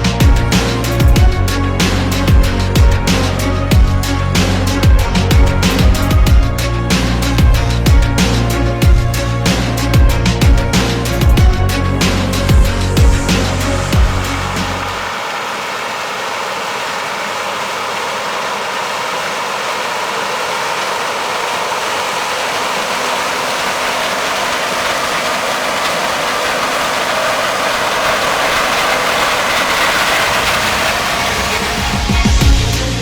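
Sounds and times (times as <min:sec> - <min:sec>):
farm machinery running: 0:00.0 - 0:33.0.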